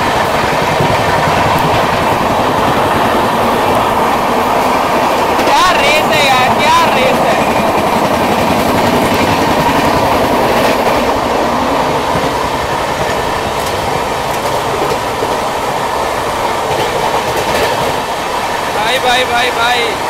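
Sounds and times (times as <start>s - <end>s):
train wheels clickety-clack: 0.0s - 20.0s.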